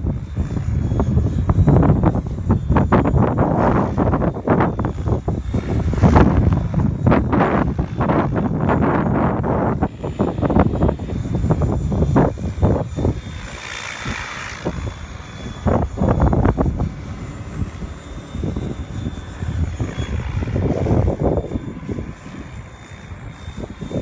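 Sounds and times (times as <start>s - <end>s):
model helicopter rotor and motor: 0.0s - 24.0s
wind rumble on microphone: 0.0s - 24.0s.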